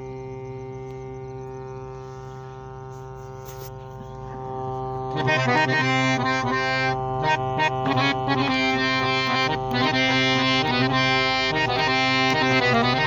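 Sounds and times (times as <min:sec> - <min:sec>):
harmonium drone: 0:00.0 - 0:13.0
harmonium melodic notes: 0:00.0 - 0:13.0.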